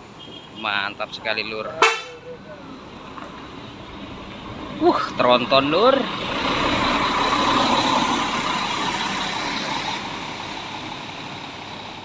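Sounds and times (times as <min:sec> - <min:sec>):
bus passing by: 0:00.0 - 0:12.0.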